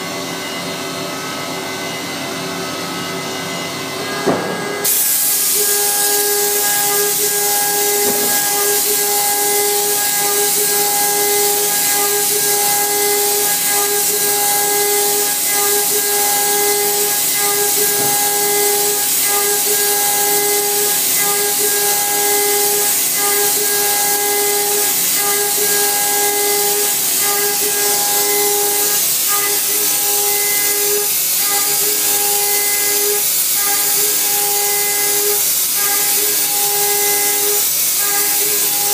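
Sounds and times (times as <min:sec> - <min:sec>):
milling machine cutting steel: 0:02.7 - 0:38.9.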